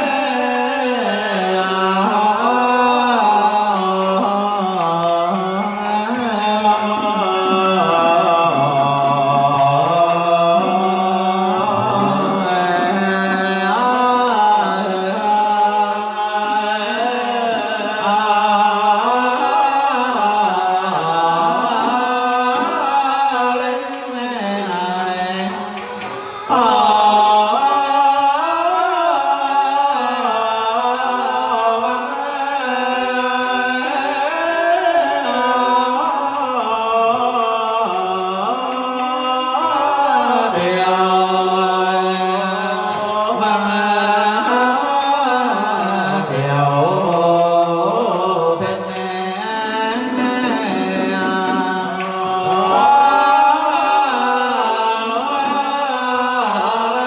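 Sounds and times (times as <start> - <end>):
ceremonial ritual music: 0.0 - 57.0
man chanting in sliding notes: 0.0 - 57.0.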